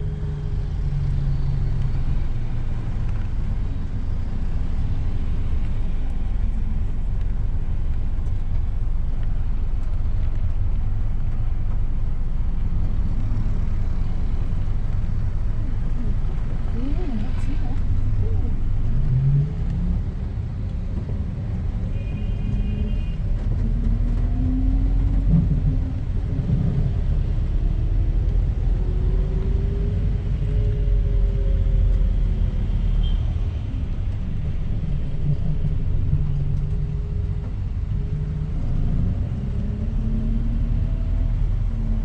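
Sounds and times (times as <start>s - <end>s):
bus engine: 0.0s - 42.0s
road rumble: 0.0s - 42.0s.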